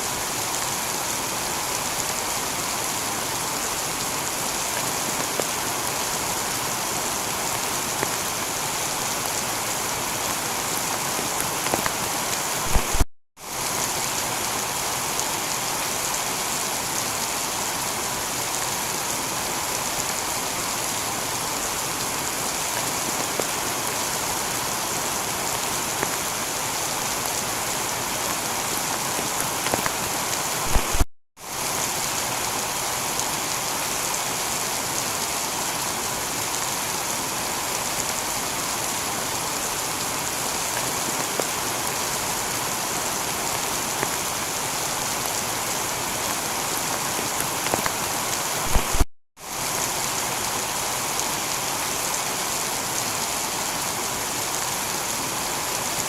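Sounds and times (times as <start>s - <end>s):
heavy rain on tiled roof: 0.0s - 56.0s.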